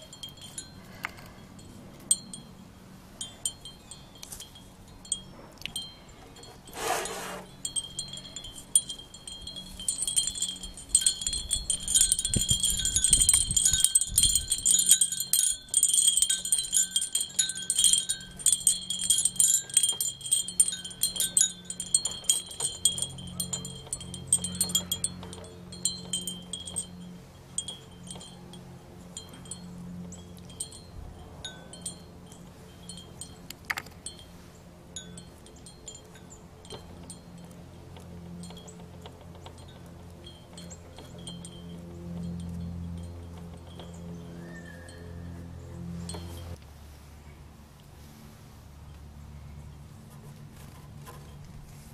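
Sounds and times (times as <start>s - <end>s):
metal wind chimes tinkling: 0.0s - 46.6s
low steady drone: 0.0s - 51.9s.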